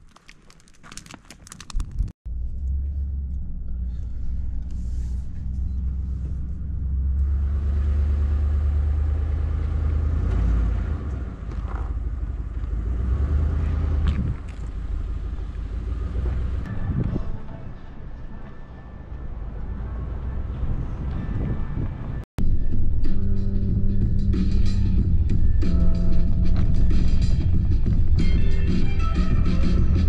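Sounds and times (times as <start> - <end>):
car driving rumble: 1.7 - 30.0.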